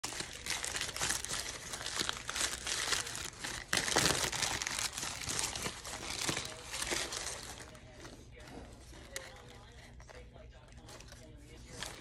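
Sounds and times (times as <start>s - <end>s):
paper wrapper crinkling: 0.0s - 12.0s.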